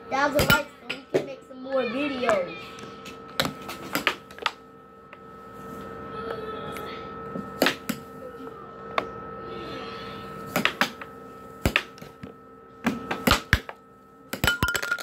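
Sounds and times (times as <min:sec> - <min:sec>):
air blower hum: 0:00.0 - 0:15.0.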